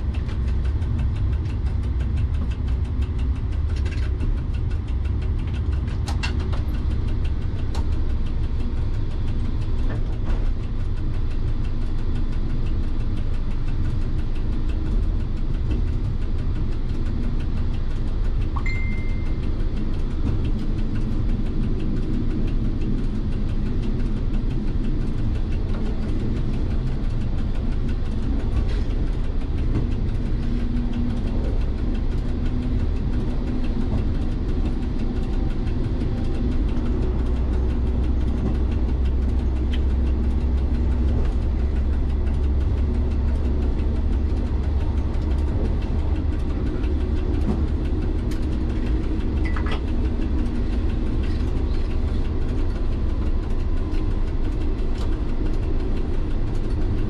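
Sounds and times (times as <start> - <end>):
faint clicks: 0.0 - 57.0
railcar diesel engine rumbling: 0.0 - 57.0
wheels rolling on track: 0.0 - 57.0.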